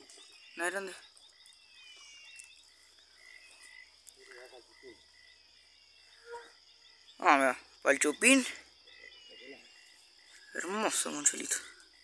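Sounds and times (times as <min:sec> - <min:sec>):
high-pitched insect trill: 0:00.0 - 0:12.0
short frog calls: 0:00.0 - 0:12.0.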